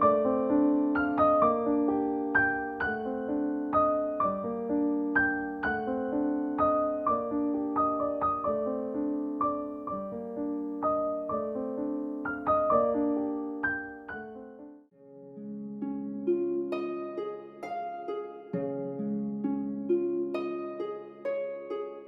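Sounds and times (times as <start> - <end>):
slow piano melody: 0.0 - 22.0.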